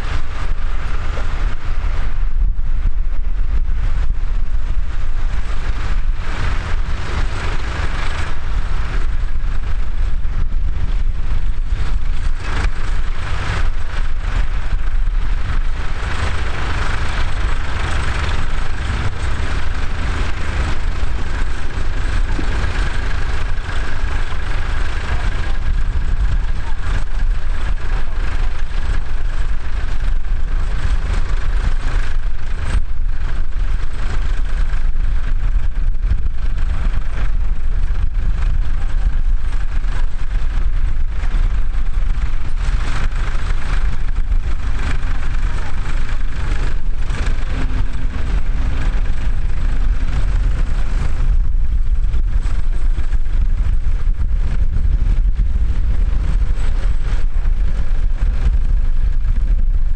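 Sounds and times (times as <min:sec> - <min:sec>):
tractor diesel engines running: 0:00.0 - 0:59.9
wind rumbling on microphone: 0:00.0 - 0:59.9.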